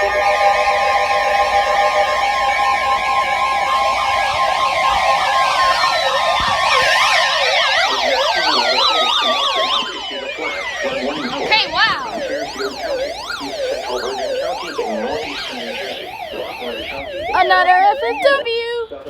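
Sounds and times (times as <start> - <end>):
electronic sirens yelping: 0.0 - 19.0
steady alert tone: 1.9 - 18.5.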